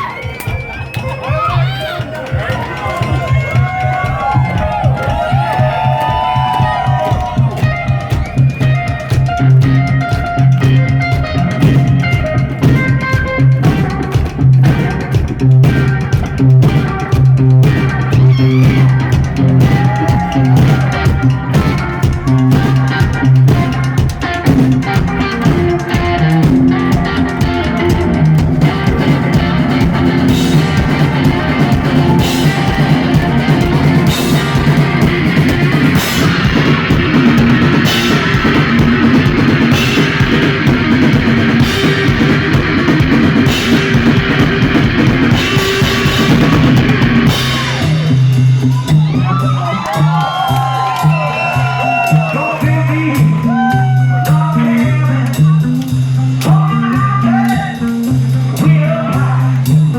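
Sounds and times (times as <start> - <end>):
drums and cymbals: 0.0 - 59.9
electric guitar: 0.1 - 59.9.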